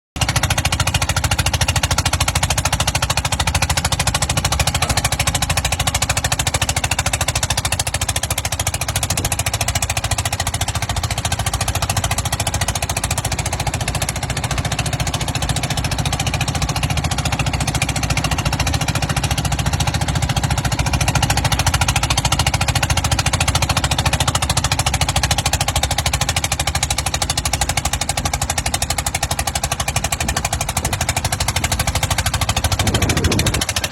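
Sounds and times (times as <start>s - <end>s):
small dozer engine running: 0.2s - 33.9s.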